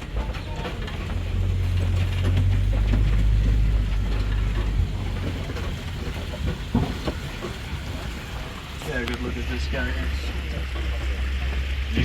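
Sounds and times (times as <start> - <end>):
vehicle rattling: 0.0 - 12.0
vehicle rumbling: 0.0 - 12.0.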